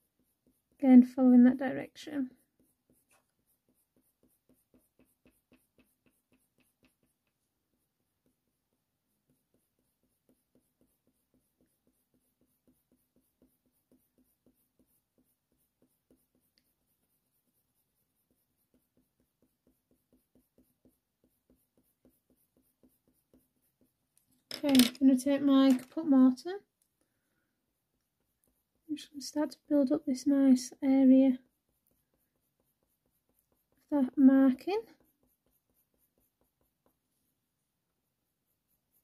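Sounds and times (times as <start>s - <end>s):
pencil scratching on paper: 0.0s - 39.0s.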